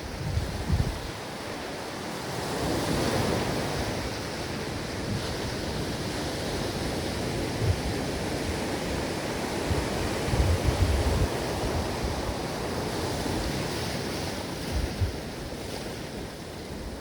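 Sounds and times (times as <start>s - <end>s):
ocean waves washing onto beach: 0.0s - 17.0s
wind rumbling on microphone: 0.0s - 17.0s.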